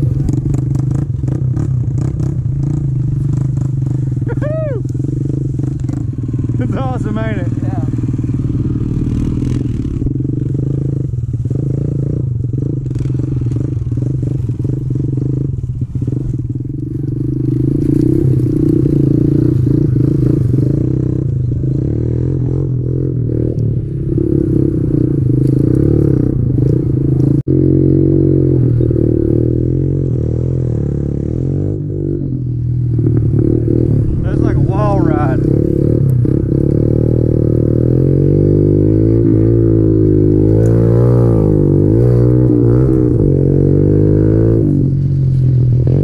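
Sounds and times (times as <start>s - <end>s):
motorbike engine revving: 0.0s - 46.0s.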